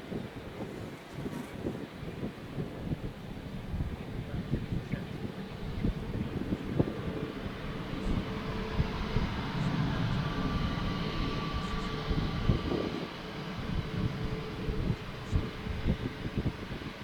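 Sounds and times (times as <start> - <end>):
jet engines running: 0.0 - 17.0
wind buffeting microphone: 0.0 - 17.0.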